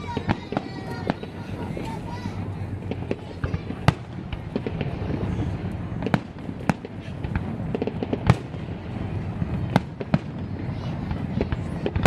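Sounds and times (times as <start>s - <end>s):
low rumble: 0.0s - 11.9s
fireworks bangs and crackles: 0.0s - 12.0s.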